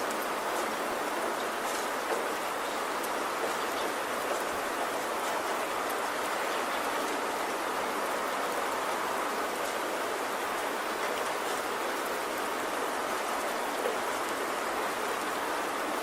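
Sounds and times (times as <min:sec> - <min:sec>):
steady rainfall: 0:00.0 - 0:16.0.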